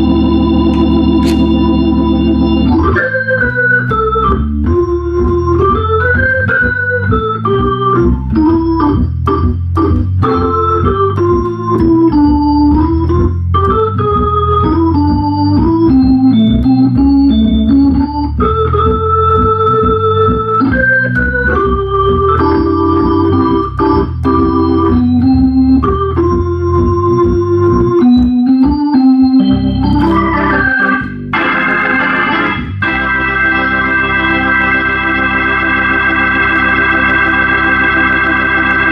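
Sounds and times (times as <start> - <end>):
organ playing melody and chords: 0.0 - 38.9.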